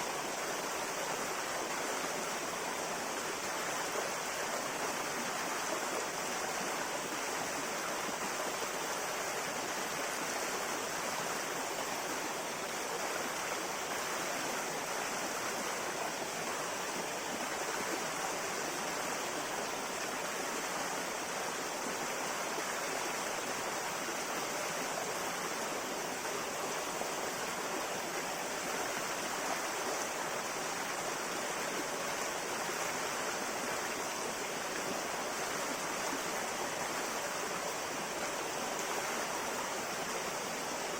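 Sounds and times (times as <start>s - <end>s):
river water rushing over stones: 0.0s - 40.9s.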